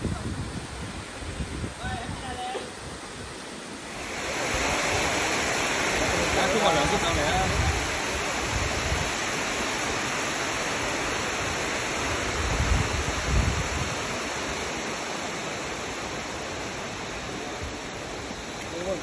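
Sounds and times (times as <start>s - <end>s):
water rushing down spillway: 0.0s - 19.0s.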